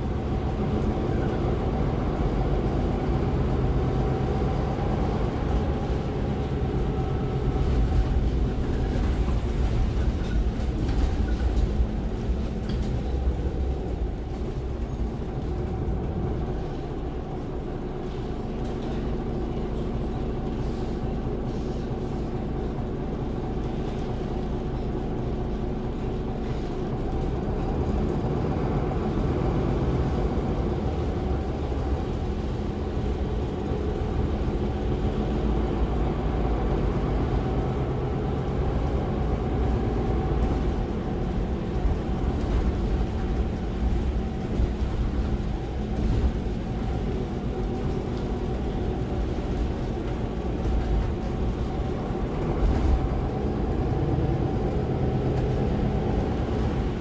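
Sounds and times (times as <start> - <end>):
bus engine and tyres rumbling: 0.0 - 57.0.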